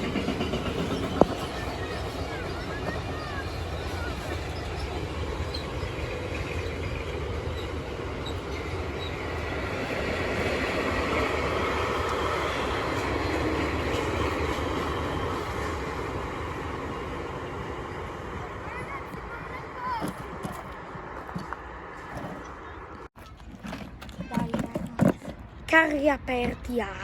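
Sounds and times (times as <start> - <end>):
freight train rumbling on rails: 0.0 - 27.0.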